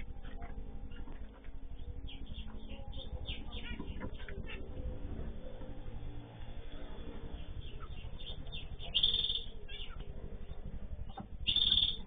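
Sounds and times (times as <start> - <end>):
finches chirping: 0.0 - 12.0
steady low hum: 0.0 - 12.0.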